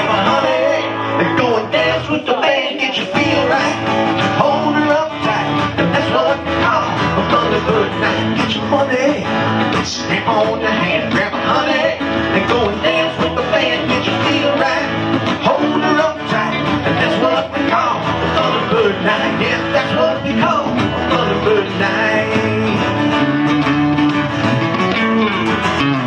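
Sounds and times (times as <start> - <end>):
live country rock song: 0.0 - 26.0.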